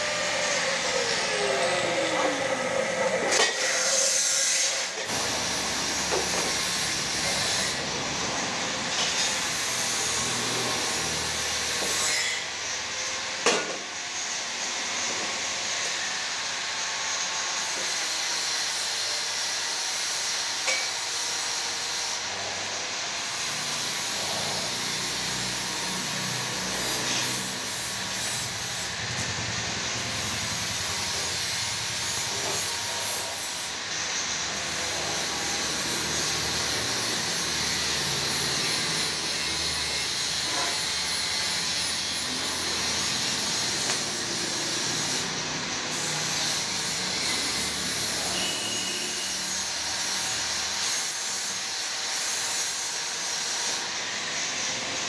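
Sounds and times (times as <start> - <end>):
arc welding crackling hiss: 3.3 - 55.0.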